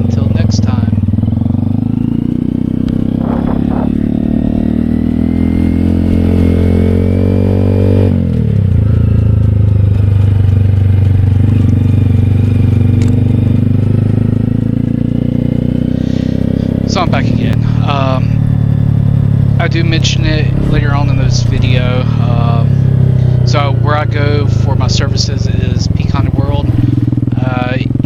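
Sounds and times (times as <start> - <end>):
small motorcycle engine running: 0.0 - 28.0.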